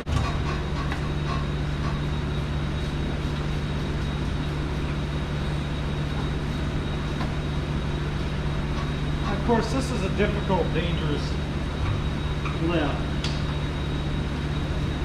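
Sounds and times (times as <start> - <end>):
low machine drone: 0.0 - 15.0.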